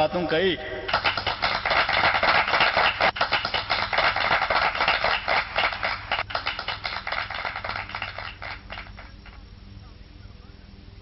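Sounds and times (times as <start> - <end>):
applause: 0.2 - 9.4.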